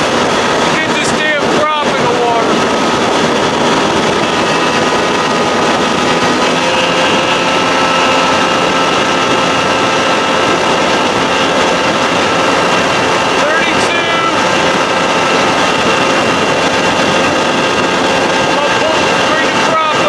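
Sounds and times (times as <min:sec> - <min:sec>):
outboard motor drone and whine: 0:00.0 - 0:20.0
rushing water: 0:00.0 - 0:20.0.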